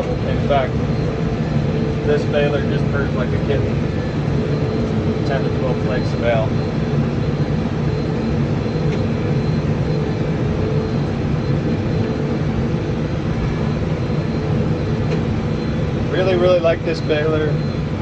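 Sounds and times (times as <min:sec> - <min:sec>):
tractor and baler humming: 0:00.0 - 0:18.0.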